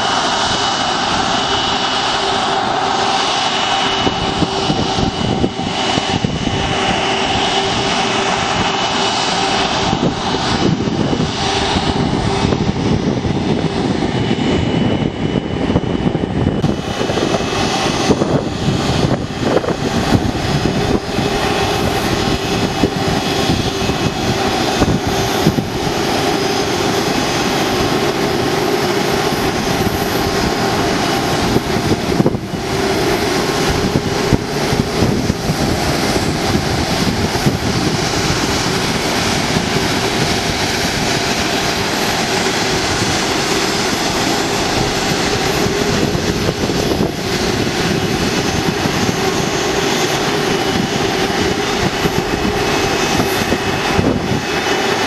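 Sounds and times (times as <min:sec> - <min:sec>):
jet engines at taxi power: 0:00.0 - 0:55.0.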